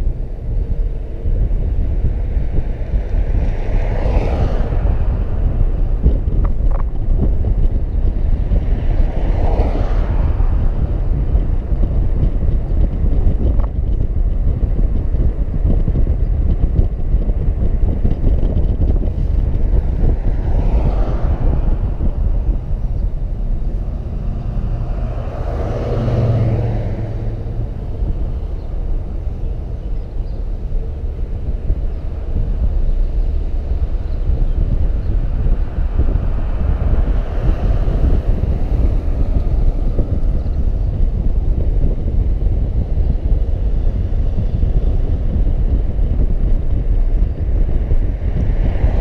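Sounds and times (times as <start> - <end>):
road rumble: 0.0 - 49.0
vehicles swishing past: 0.0 - 49.0
wind buffeting: 0.0 - 49.0.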